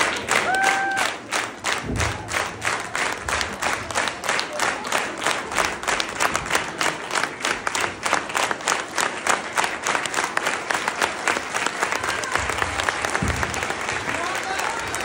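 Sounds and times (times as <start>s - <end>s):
audience applauding in rhythm: 0.0s - 15.0s.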